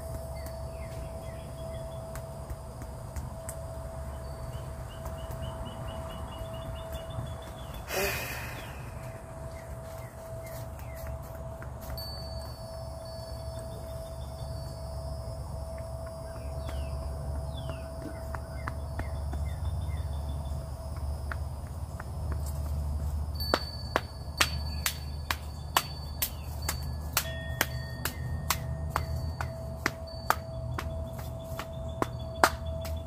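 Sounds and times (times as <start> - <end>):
high insect-like tones: 0.0 - 33.0.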